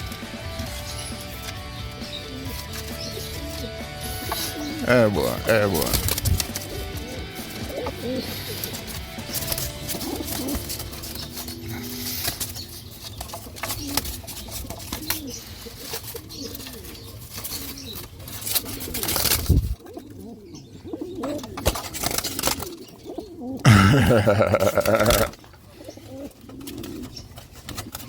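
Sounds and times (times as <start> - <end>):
pigeon cooing: 2.0 - 28.0.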